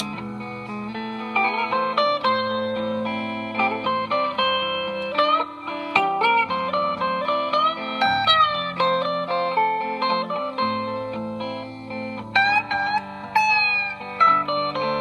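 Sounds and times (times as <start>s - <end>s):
electric guitar picked notes: 0.0s - 15.0s.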